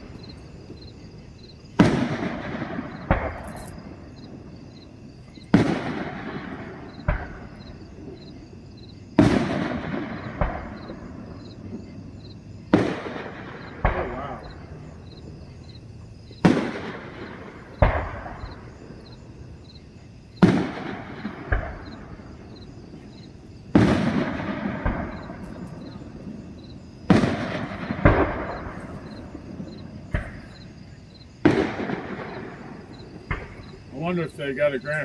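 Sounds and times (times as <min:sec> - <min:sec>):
fireworks booming: 0:00.0 - 0:35.0.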